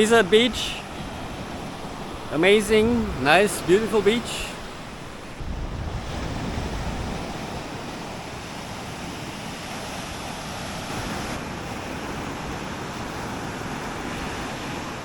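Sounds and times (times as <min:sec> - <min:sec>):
waves breaking on beach: 0:00.0 - 0:15.0
wind rumbling on microphone: 0:00.0 - 0:15.0.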